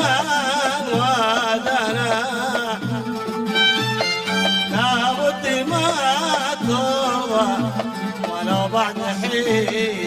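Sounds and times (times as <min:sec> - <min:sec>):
ornamented folk melody: 0:00.0 - 0:10.0.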